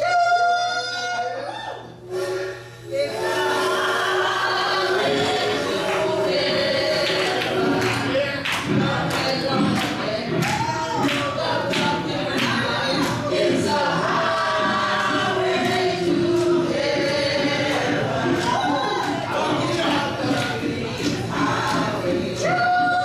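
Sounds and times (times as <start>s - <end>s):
gospel choir singing: 1.8s - 23.0s
instrumental backing with beat: 4.5s - 23.0s.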